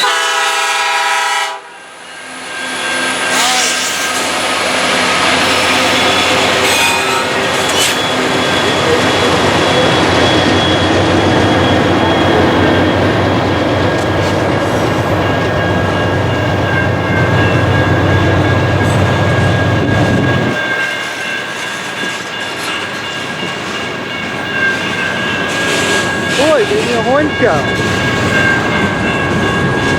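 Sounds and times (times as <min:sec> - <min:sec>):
freight train wheels rumbling on rail: 0:00.0 - 0:29.9.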